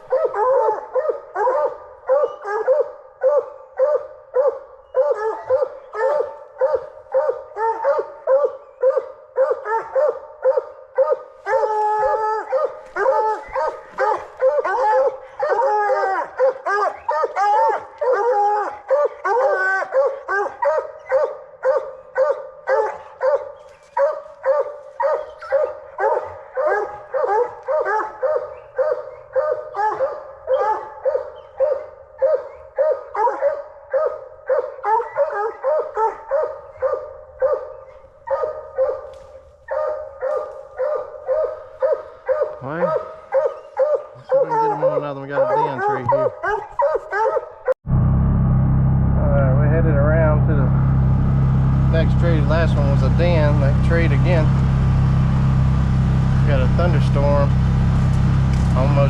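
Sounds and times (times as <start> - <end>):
second hound barking: 0.0 - 47.7
hound barking steadily: 0.0 - 47.8, 51.4 - 59.0.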